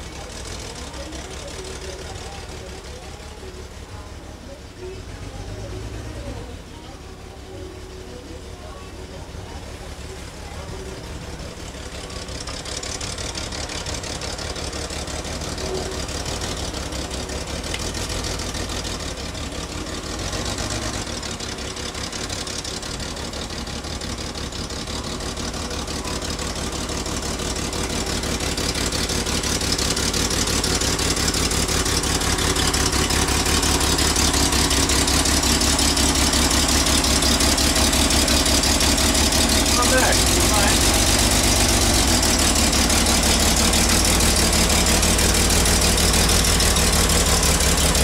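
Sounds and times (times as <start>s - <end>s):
car engine driving up: 0.0s - 48.0s.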